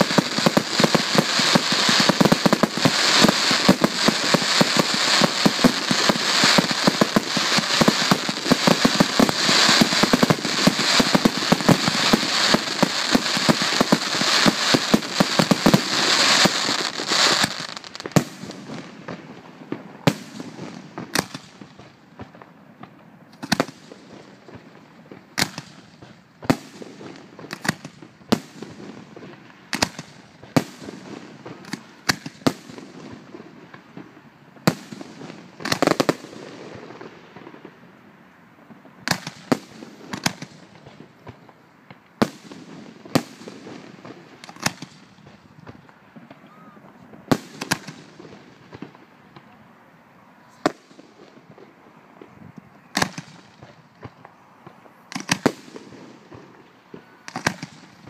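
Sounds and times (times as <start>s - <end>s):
fireworks crackling and banging: 0.0s - 38.0s, 38.6s - 49.7s, 50.5s - 58.0s.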